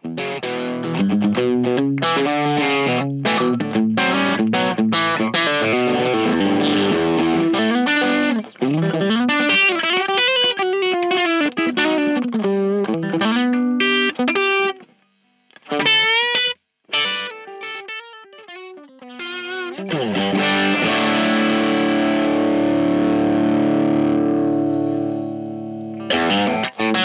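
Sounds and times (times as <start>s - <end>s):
overdriven electric guitar licks: 0.0s - 27.0s.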